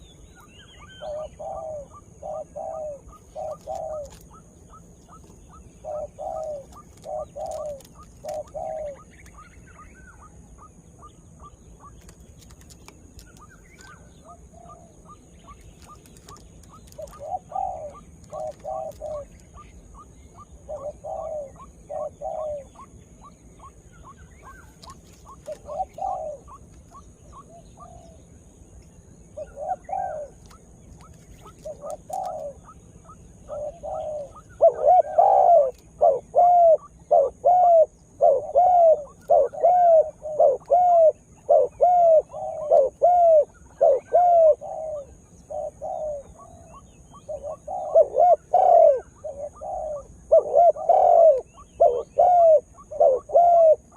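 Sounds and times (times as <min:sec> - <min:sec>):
dove cooing: 0:00.0 - 0:28.3, 0:29.3 - 0:53.9.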